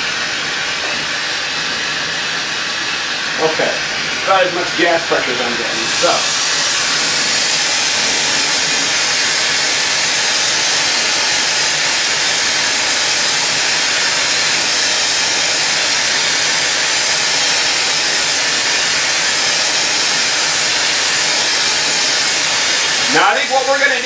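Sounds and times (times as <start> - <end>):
gas torch hissing: 0.0 - 24.0.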